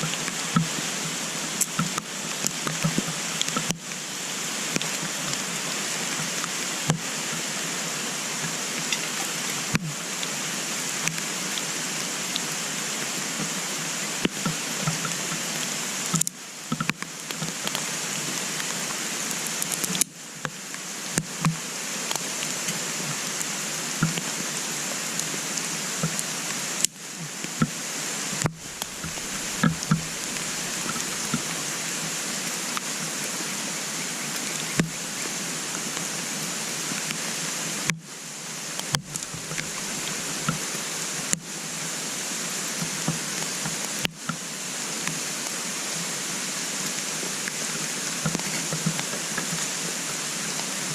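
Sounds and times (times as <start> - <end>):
wood fire crackling and hissing: 0.0 - 50.9.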